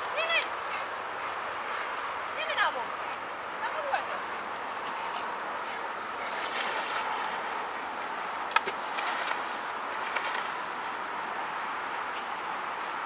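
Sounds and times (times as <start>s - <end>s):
dog paddling and splashing: 0.0s - 13.0s.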